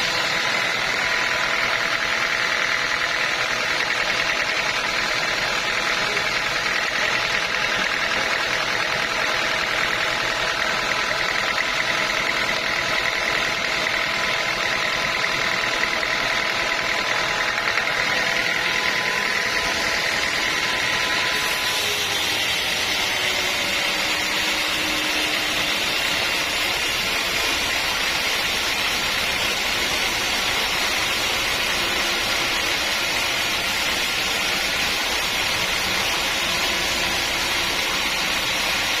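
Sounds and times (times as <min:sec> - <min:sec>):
sawmill machinery droning: 0:00.0 - 0:39.0.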